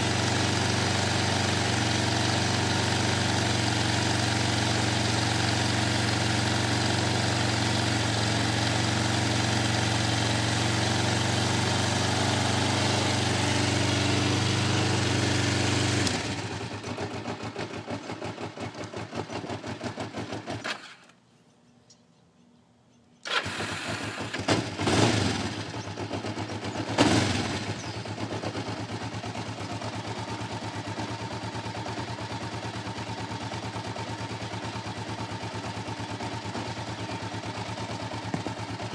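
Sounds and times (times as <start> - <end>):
motorcycle engine idling and revving: 0.0 - 21.2, 23.2 - 38.9.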